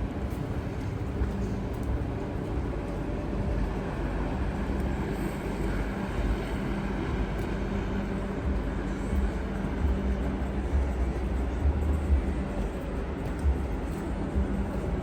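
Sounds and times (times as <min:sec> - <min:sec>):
city street traffic rumble: 0:00.0 - 0:15.0
faint engine hum: 0:00.0 - 0:15.0.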